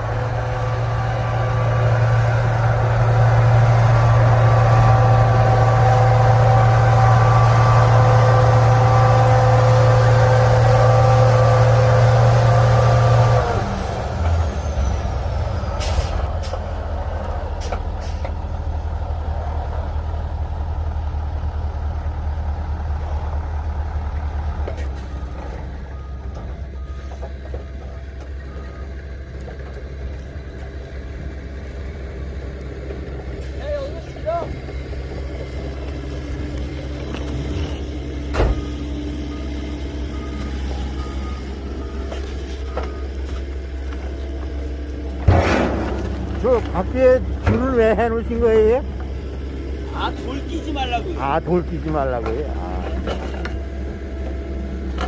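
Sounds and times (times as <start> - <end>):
truck engine rumbling: 0.0 - 55.0.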